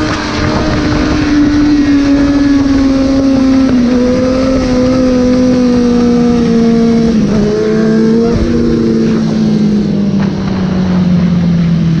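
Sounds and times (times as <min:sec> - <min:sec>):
motorcycle engine revving high: 0:00.0 - 0:12.0
wind on microphone: 0:00.0 - 0:12.0.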